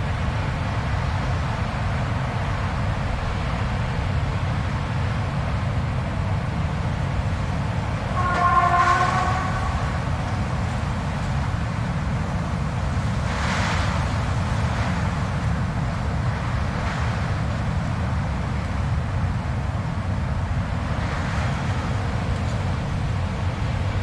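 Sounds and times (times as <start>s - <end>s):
blizzard wind rumble: 0.0s - 24.0s
pitched wind howl: 0.6s - 24.0s.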